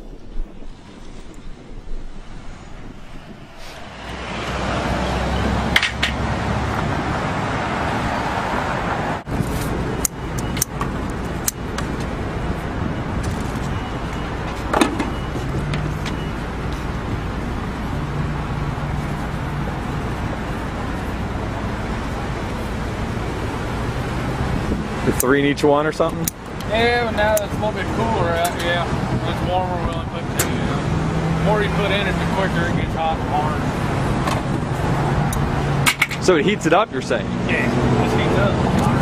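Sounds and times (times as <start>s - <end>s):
road traffic: 0.0s - 39.0s.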